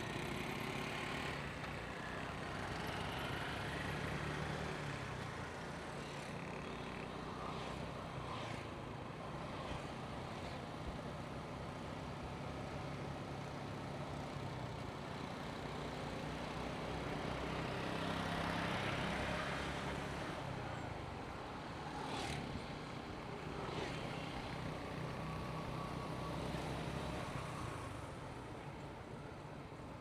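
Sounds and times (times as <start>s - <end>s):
tyre and traffic noise: 0.0s - 30.0s.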